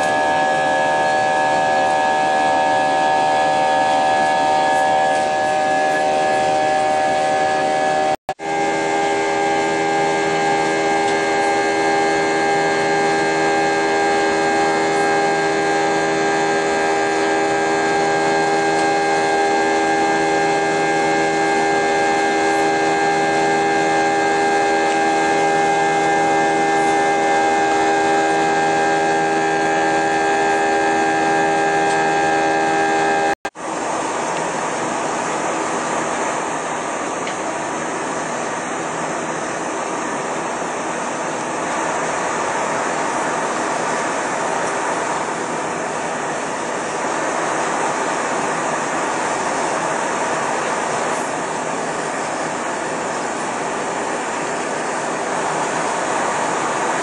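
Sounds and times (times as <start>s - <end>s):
jet engines whining in cabin: 0.0s - 57.0s.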